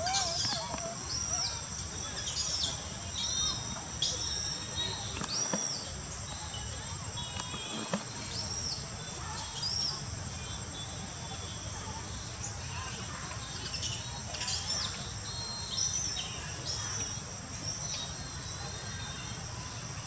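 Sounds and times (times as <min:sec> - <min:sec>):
birds chirping: 0:00.0 - 0:19.7.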